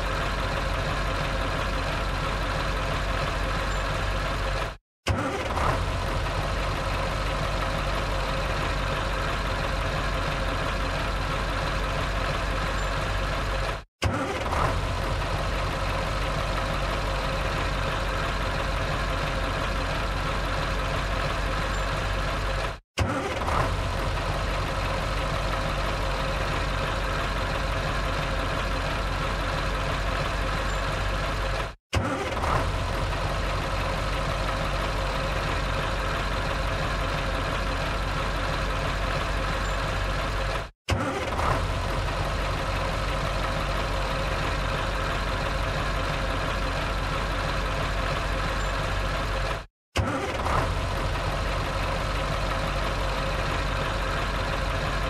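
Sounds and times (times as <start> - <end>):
truck engine starting and idling: 0.0 - 55.0.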